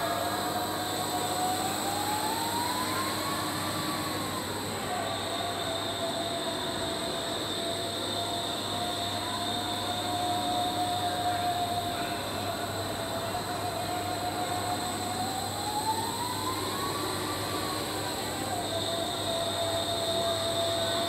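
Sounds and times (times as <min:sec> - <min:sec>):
thin mechanical whine: 0:00.0 - 0:21.0.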